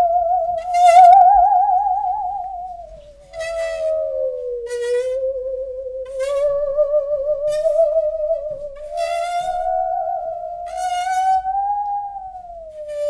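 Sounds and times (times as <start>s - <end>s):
musical saw wavering tone: 0.0s - 13.0s.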